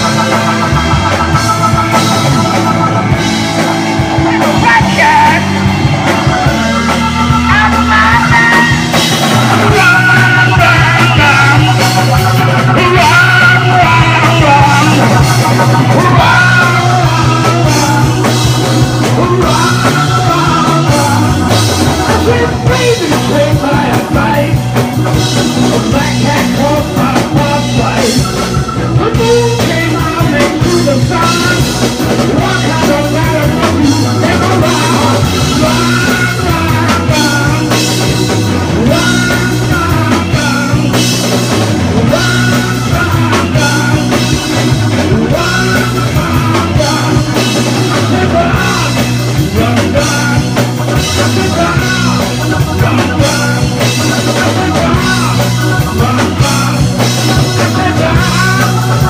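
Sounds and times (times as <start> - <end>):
drums: 0.0 - 59.0
electric guitar: 0.0 - 59.0
man singing into microphone: 4.2 - 59.0.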